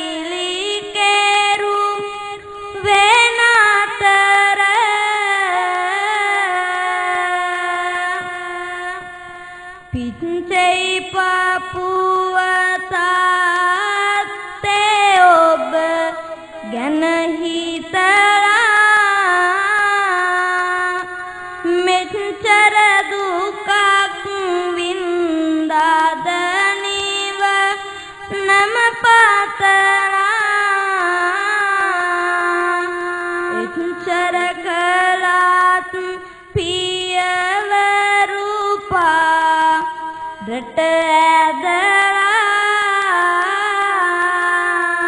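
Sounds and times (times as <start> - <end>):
boy chanting verse melody: 0.0 - 45.0.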